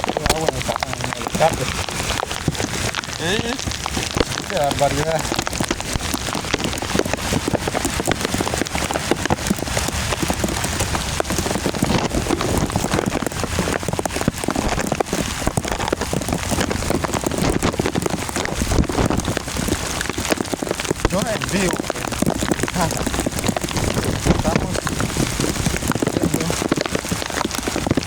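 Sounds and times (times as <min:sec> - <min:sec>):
heavy rain: 0:00.0 - 0:28.0
raindrops hitting a surface: 0:00.0 - 0:28.0.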